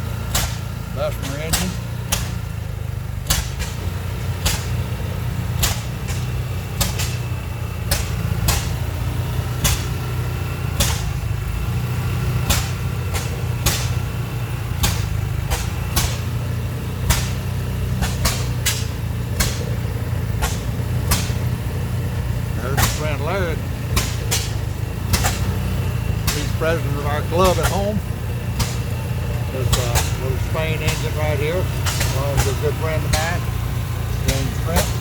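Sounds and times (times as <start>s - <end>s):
engine exhaust pops: 0.0s - 35.0s
low engine rumble: 0.0s - 35.0s.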